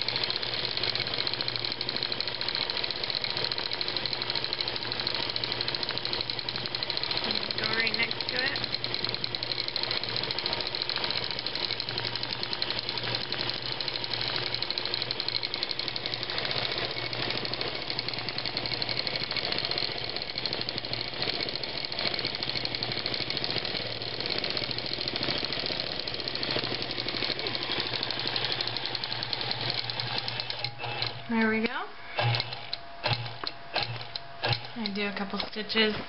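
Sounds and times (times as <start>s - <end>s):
quilting machine stitching: 0.0s - 36.0s.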